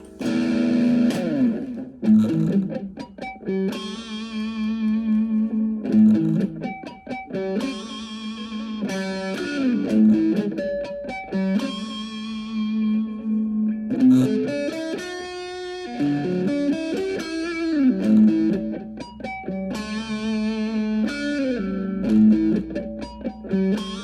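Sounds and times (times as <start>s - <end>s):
slow guitar melody: 0.0s - 24.0s.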